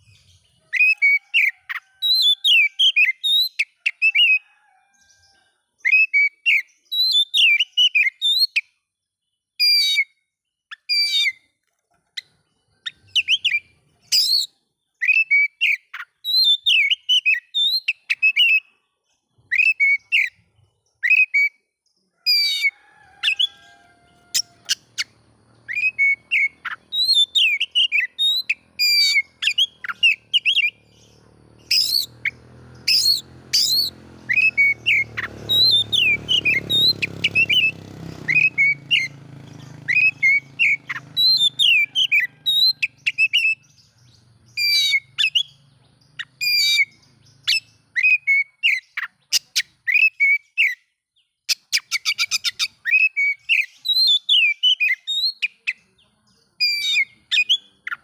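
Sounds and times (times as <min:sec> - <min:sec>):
magpie-robin singing: 0:00.0 - 0:08.8, 0:09.6 - 0:11.5, 0:12.1 - 0:21.6, 0:22.3 - 0:58.0.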